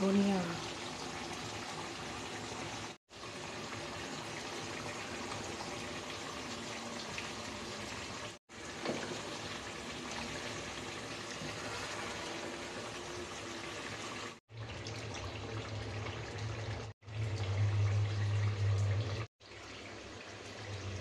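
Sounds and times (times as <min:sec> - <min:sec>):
meat frying in oil: 0:00.0 - 0:21.0.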